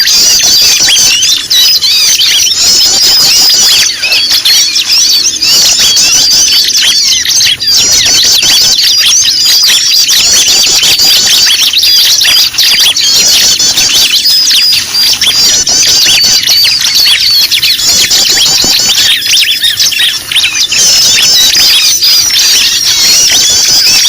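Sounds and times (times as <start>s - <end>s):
many small birds chirping: 0.0s - 24.0s.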